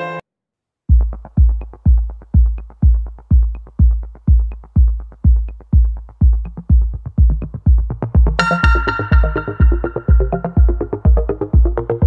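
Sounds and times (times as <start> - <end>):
deep kick drum beat: 0.9 - 12.0.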